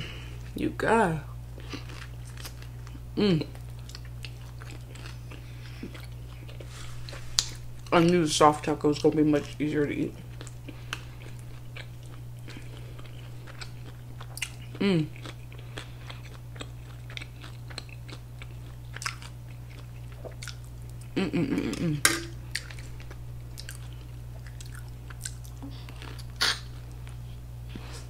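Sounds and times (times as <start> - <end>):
steady low hum: 0.0 - 28.0
person chewing food: 1.3 - 28.0.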